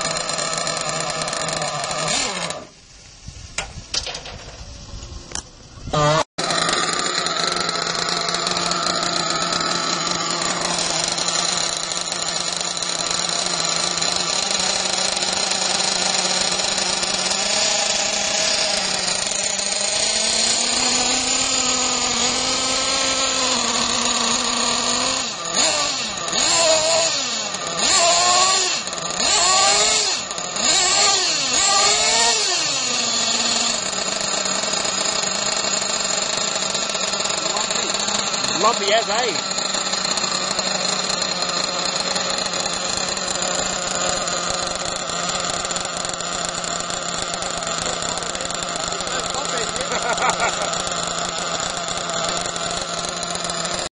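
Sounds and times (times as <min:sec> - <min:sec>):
model engine idling and revving: 0:00.0 - 0:02.8, 0:05.2 - 0:53.9.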